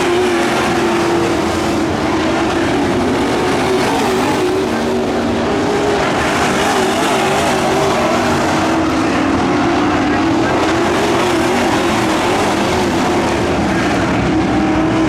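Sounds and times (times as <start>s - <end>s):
racing truck engines: 0.0s - 15.0s.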